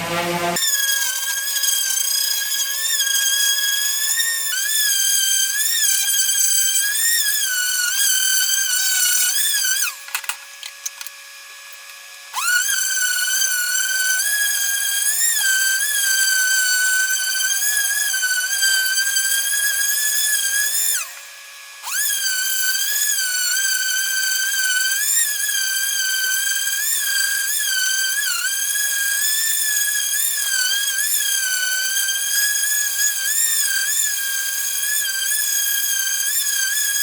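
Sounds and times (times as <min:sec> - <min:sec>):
power tool cutting wood: 0:00.0 - 0:37.0.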